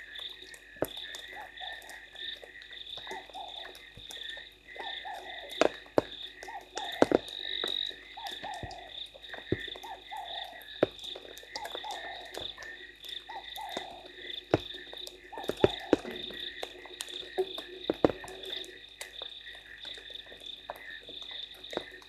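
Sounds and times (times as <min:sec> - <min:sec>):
frog calling: 0:00.0 - 0:22.0
high-pitched frog chorus: 0:00.0 - 0:22.0
raindrops tapping: 0:00.0 - 0:22.0.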